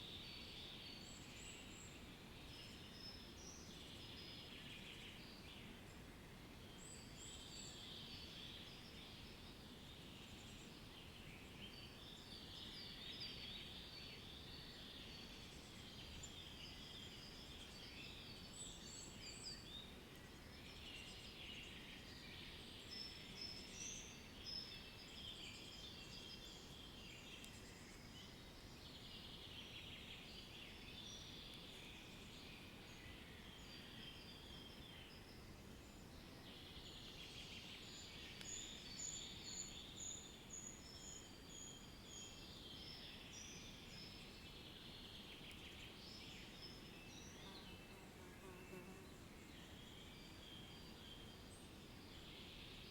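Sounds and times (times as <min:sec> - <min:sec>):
low background hiss: 0:00.0 - 0:52.9.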